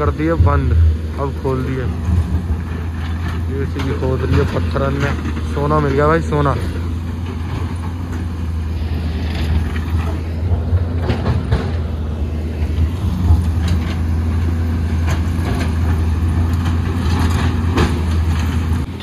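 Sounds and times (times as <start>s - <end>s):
digger diesel engine running: 0.0s - 19.0s.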